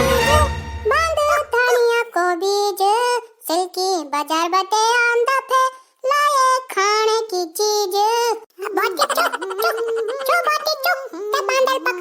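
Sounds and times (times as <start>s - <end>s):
high cartoon voice singing: 0.0s - 12.0s.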